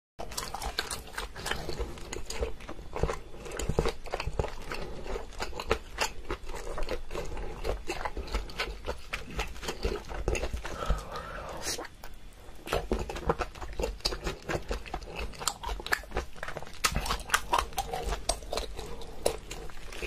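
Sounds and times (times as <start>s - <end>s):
person biting and chewing food: 0.2s - 20.0s.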